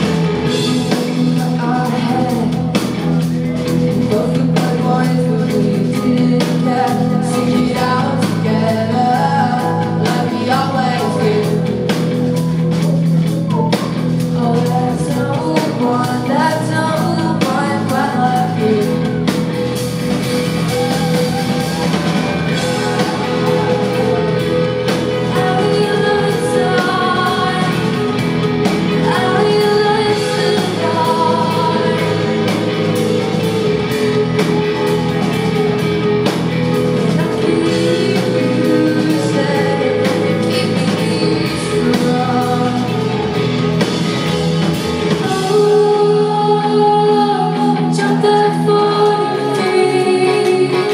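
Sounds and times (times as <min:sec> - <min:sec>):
live rock band playing: 0:00.0 - 0:50.9
woman singing lead: 0:00.0 - 0:50.9.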